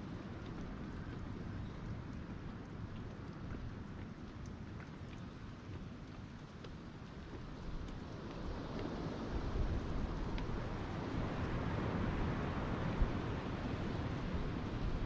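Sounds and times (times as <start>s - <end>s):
faint water drips: 0.0s - 15.0s.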